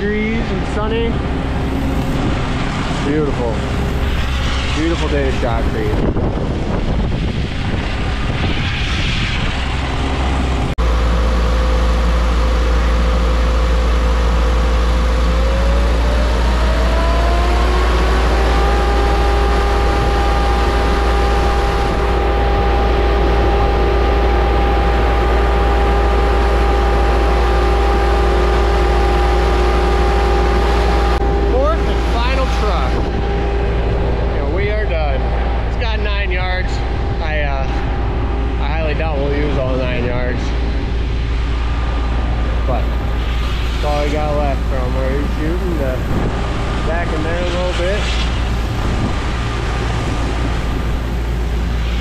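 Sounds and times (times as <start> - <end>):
diesel engines running: 0.0 - 52.0
job-site noise: 0.0 - 52.0.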